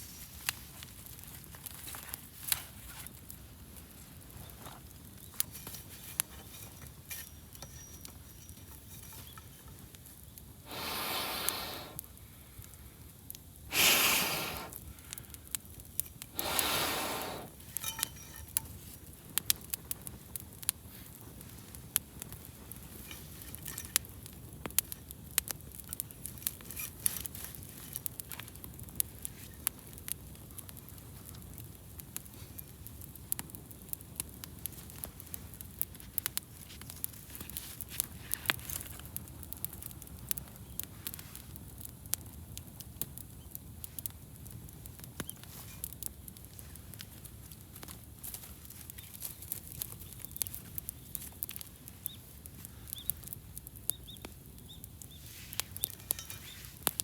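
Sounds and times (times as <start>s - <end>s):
low rumble of flames: 0.0s - 57.0s
wood fire popping and snapping: 0.0s - 57.0s.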